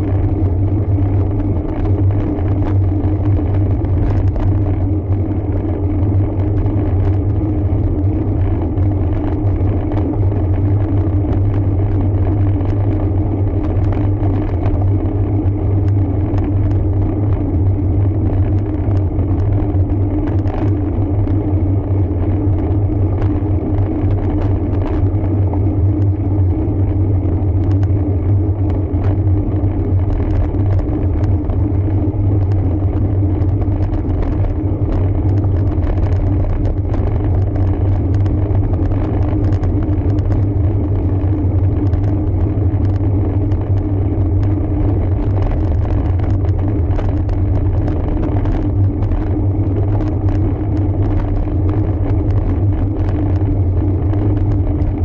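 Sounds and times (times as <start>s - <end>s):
road bike low rumble: 0.0s - 55.0s.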